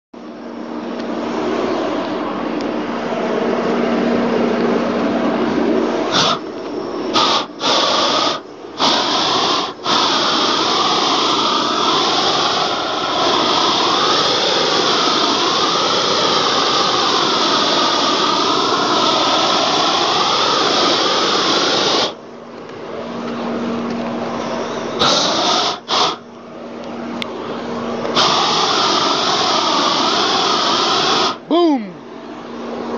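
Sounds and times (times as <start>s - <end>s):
gas torch hissing rush: 1.0s - 22.2s, 23.9s - 31.8s.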